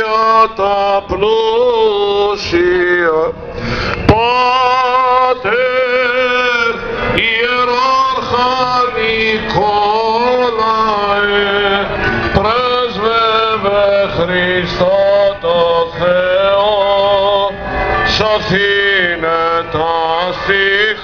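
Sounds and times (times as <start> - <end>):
man chanting a hymn: 4.0 - 21.0.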